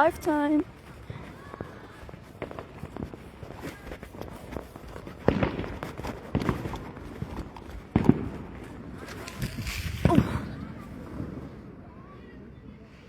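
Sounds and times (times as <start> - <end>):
small crackles: 0.0 - 11.4
fireworks bangs: 0.0 - 11.7.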